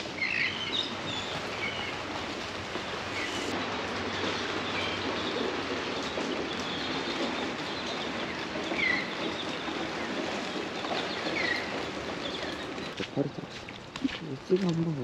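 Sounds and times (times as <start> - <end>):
birds calling: 0.0 - 13.9.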